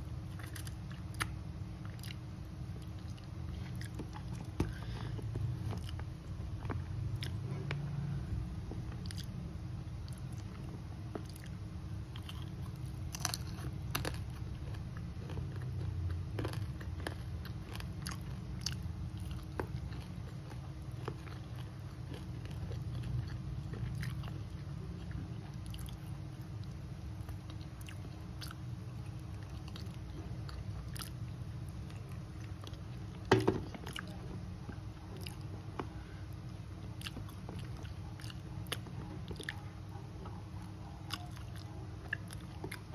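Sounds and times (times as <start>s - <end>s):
chewing and crunching: 0.0s - 42.9s
steady low hum: 0.0s - 42.9s.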